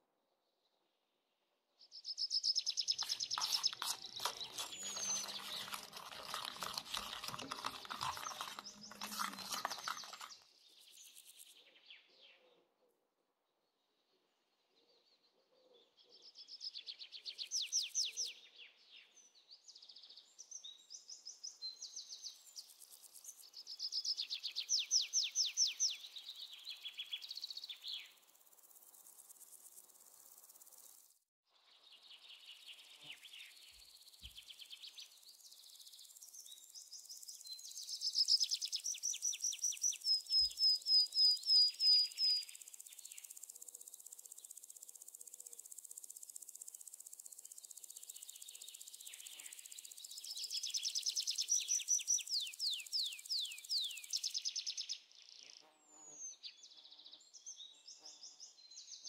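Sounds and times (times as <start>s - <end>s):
small birds chirping: 1.8s - 12.6s, 15.0s - 59.0s.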